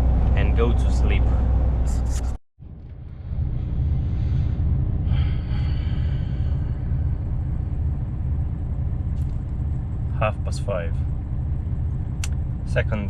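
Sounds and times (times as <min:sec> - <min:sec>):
high whine: 0:00.0 - 0:13.0
truck engine rumbling: 0:00.0 - 0:13.0.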